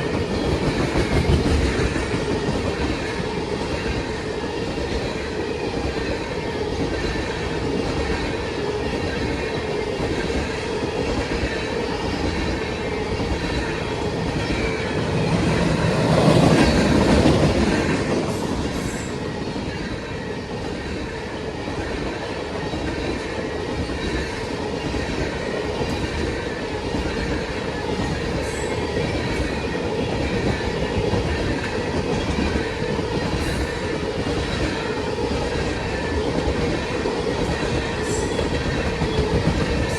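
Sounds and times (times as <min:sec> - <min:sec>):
railroad cars rolling past: 0:00.0 - 0:39.9.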